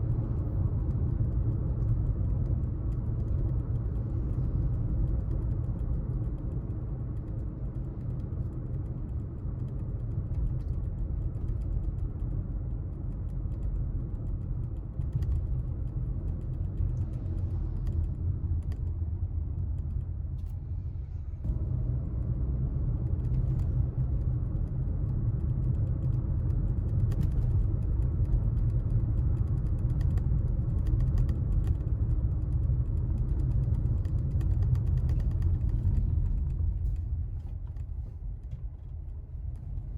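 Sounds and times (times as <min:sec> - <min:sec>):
faint ticks and creaks: 0:00.0 - 0:21.2, 0:22.9 - 0:39.9
car engine and road noise: 0:00.0 - 0:39.9.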